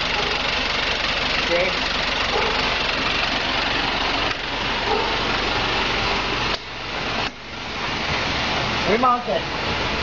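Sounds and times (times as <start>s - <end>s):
constant hiss: 0.0s - 10.0s
vehicle engine idling: 0.0s - 10.0s.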